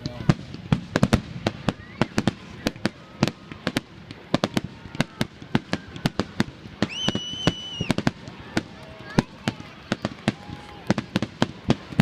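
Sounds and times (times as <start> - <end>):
fireworks whistles: 0.6 - 12.0.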